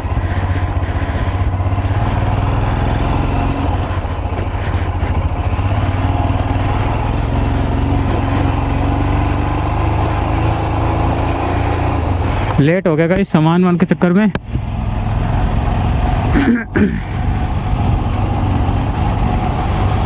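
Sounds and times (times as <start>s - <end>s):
motorcycle engine droning: 0.0s - 20.0s.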